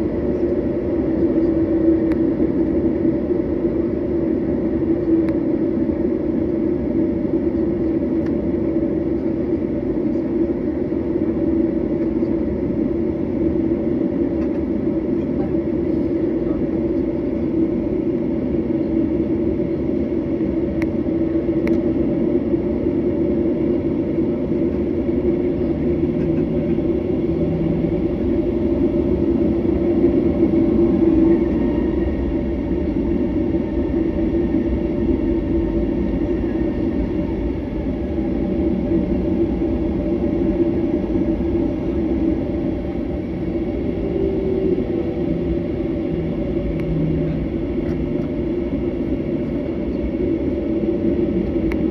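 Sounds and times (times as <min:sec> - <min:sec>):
jet engine hum and rumble: 0:00.0 - 0:51.9.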